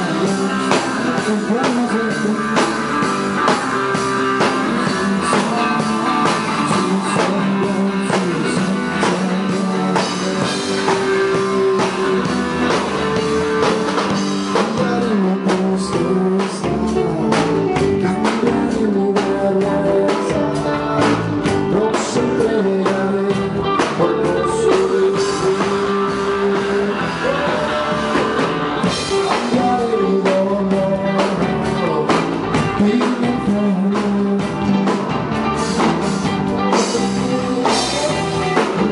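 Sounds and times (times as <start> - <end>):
drums: 0.0 - 38.9
guitar: 0.0 - 38.9
person singing: 0.0 - 38.9.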